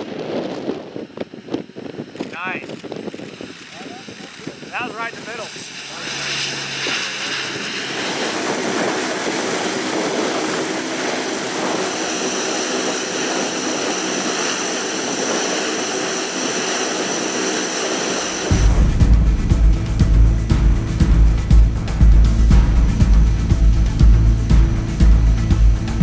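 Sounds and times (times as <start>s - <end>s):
constant high whine: 0.0s - 26.0s
turboprop engines droning: 0.0s - 26.0s.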